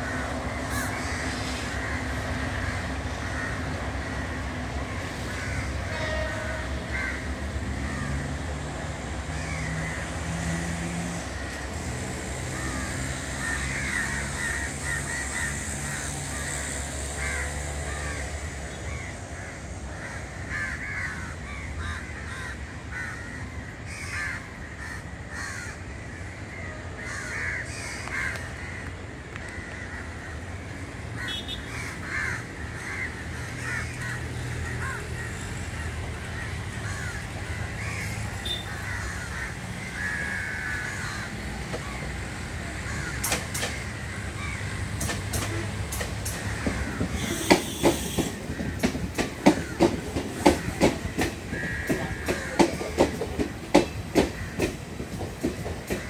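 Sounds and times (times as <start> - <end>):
crows cawing: 0.0 - 8.5, 9.2 - 10.5, 11.3 - 56.0
distant diesel train rumble: 0.0 - 56.0.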